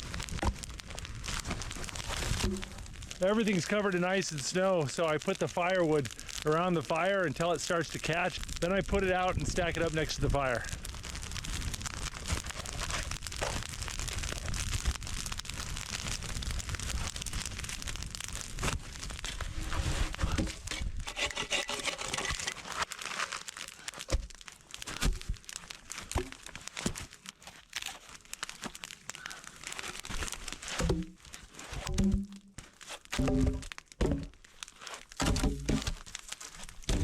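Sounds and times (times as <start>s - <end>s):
snow and branches crunching: 0.0s - 37.0s.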